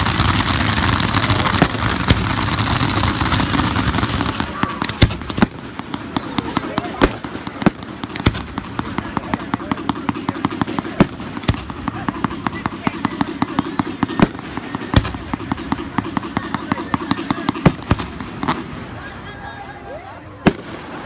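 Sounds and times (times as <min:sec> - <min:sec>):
loud firework bangs: 0:00.0 - 0:19.2, 0:20.4 - 0:21.0
fireworks popping and crackling: 0:00.0 - 0:21.0.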